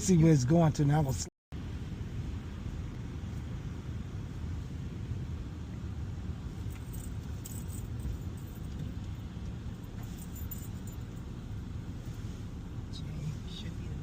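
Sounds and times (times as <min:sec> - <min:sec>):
engine and tyres rumbling: 0:00.0 - 0:14.0.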